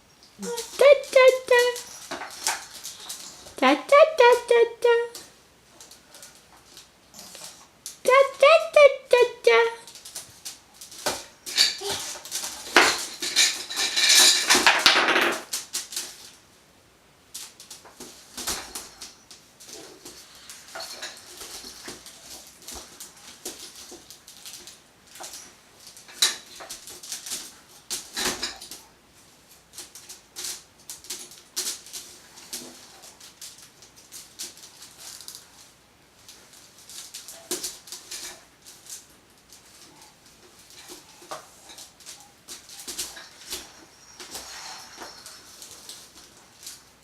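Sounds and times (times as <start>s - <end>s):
basket scratching and rattling: 0.4s - 3.6s, 9.8s - 16.4s, 17.4s - 47.0s.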